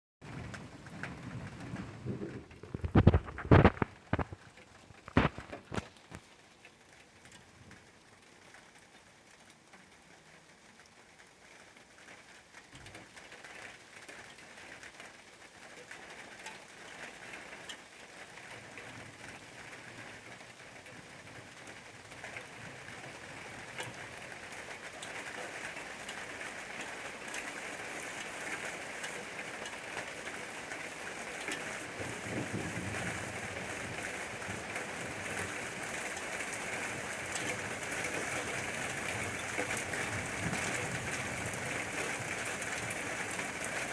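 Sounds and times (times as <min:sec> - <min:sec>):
rain falling: 0:00.2 - 0:43.9.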